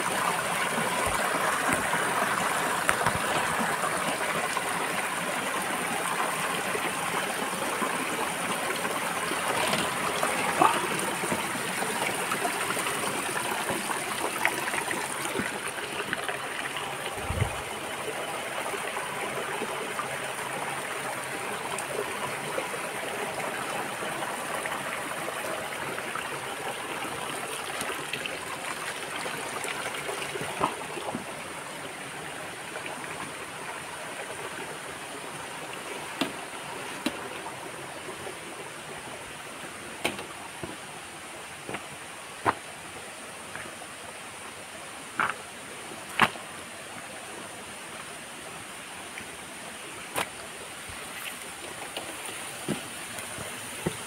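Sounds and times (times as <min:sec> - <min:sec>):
water rushing and splashing: 0:00.0 - 0:54.0.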